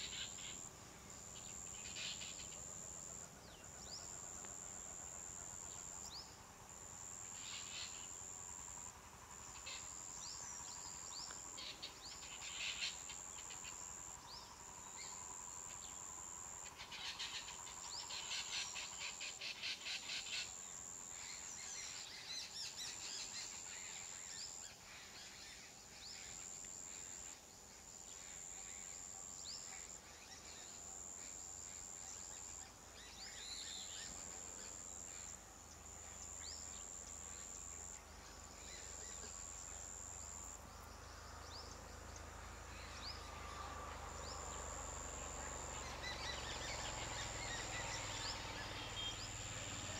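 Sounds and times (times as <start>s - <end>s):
insect high drone: 0.0s - 49.9s.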